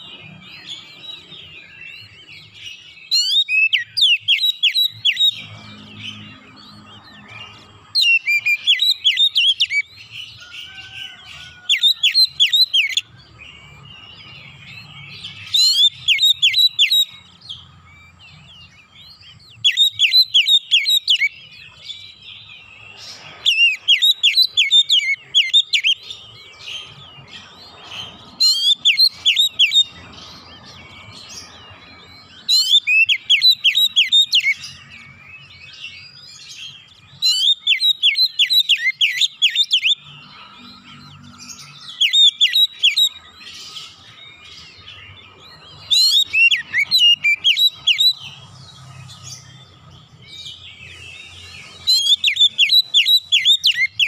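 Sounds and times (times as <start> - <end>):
bird whistling song: 0.0 - 54.0
soft bird twittering: 0.0 - 54.0.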